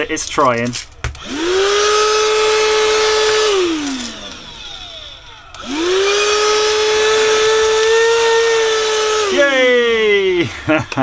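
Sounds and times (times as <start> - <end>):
handheld vacuum cleaner motor: 1.0 - 11.0.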